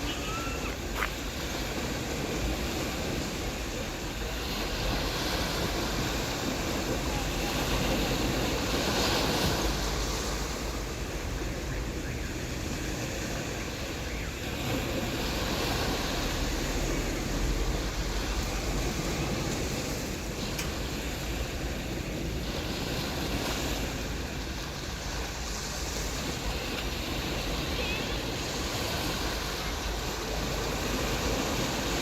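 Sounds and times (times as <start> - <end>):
surf breaking on a beach: 0.0 - 32.0.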